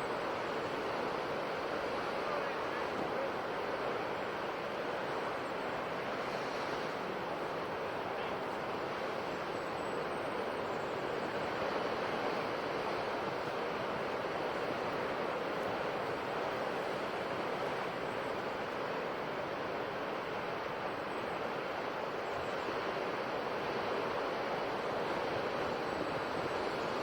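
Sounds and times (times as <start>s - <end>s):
ocean waves breaking on shore: 0.0s - 27.0s.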